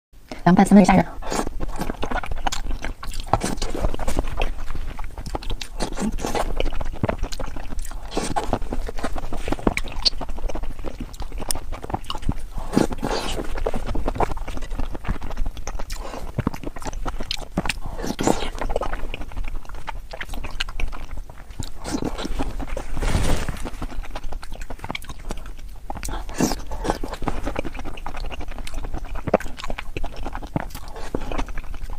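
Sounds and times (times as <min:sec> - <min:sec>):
chewing and wet mouth smacking: 0:00.8 - 0:31.9.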